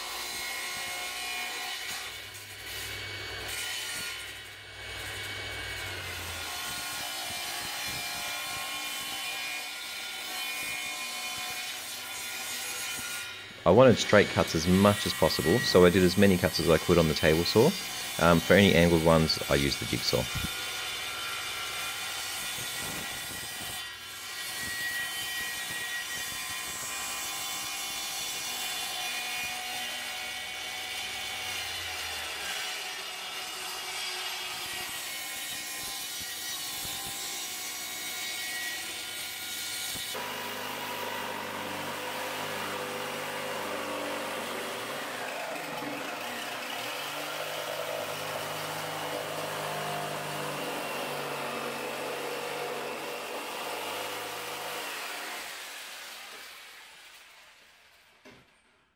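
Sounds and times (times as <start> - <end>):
electric jigsaw cutting plywood: 0.0 - 58.6
table saw cutting plywood: 0.0 - 58.7.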